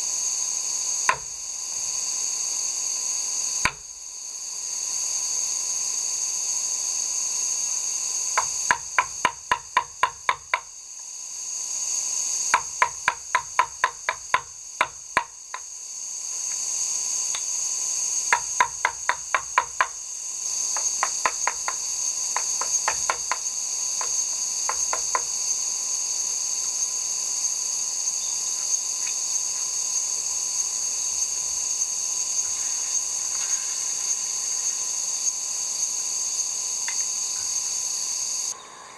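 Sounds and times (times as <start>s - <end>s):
high insect chorus: 0.0s - 38.9s.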